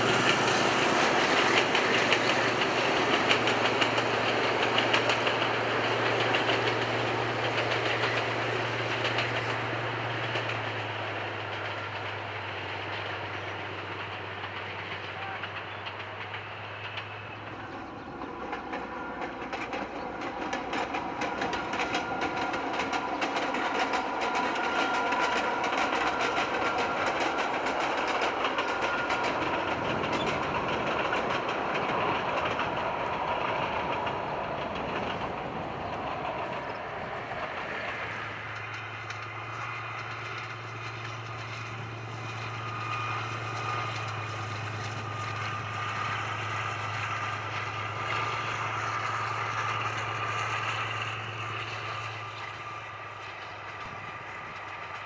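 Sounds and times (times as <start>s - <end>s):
train running rumble: 0.0s - 55.0s
wheels clicking over rail joints: 0.0s - 55.0s.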